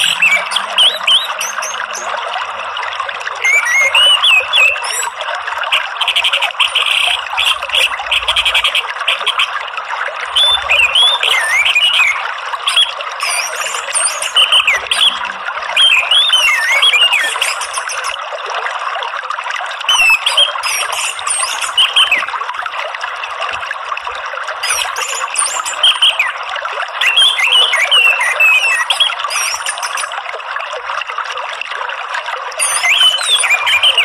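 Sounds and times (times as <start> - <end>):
running water: 0.0 - 34.0.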